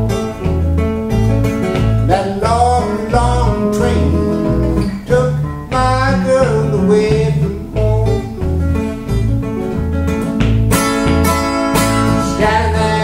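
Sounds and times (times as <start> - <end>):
acoustic guitar rockabilly rhythm: 0.0 - 13.0.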